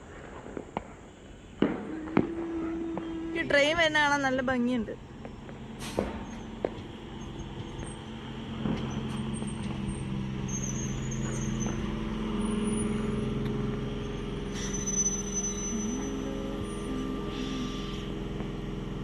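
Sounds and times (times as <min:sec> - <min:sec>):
train motors and wheels on rails: 0:00.0 - 0:19.0
faint high squeals: 0:01.6 - 0:08.1, 0:08.8 - 0:18.9.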